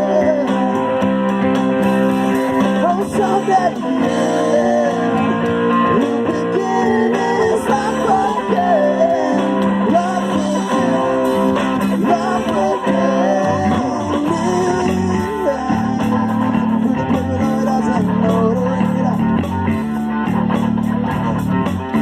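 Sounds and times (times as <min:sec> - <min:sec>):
person singing: 0:00.0 - 0:01.4, 0:02.6 - 0:19.4
electric guitar: 0:00.0 - 0:22.0
rock band playing: 0:00.0 - 0:22.0.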